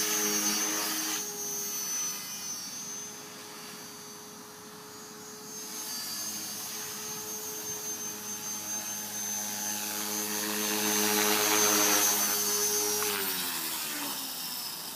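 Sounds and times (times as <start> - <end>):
rc helicopter whine and rotor hum: 0.0 - 14.9.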